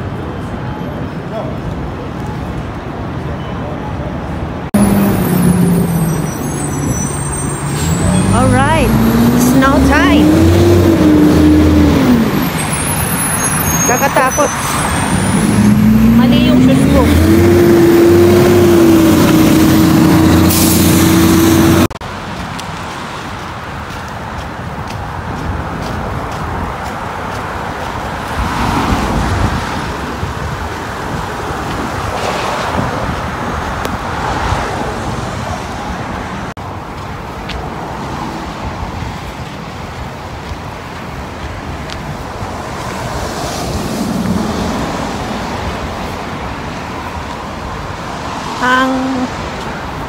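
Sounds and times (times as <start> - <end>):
street traffic noise: 0.0 - 50.0.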